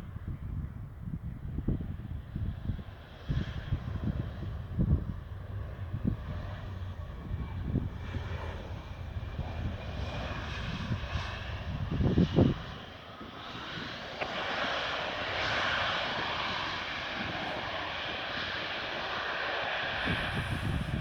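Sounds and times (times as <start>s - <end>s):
passenger jet engines landing: 0.0s - 21.0s
wind buffeting microphone: 0.0s - 21.0s.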